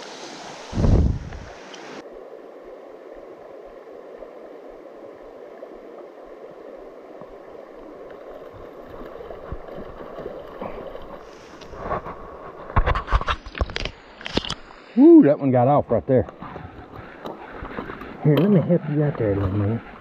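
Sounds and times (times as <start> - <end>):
creek running over stones: 0.0 - 20.0.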